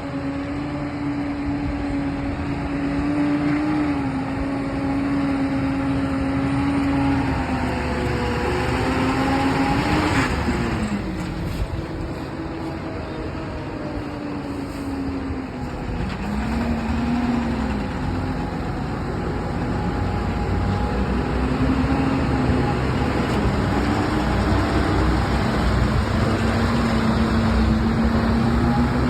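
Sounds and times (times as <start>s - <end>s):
truck engine running: 0.1s - 29.0s.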